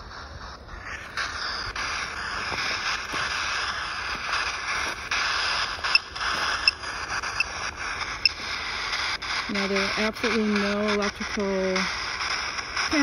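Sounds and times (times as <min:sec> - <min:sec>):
radio-like static hiss: 0:00.0 - 0:13.0.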